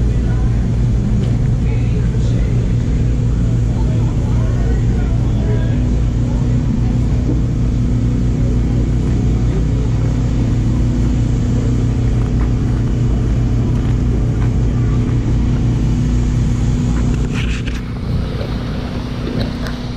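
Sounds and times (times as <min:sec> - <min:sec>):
engine humming: 0:00.0 - 0:19.9.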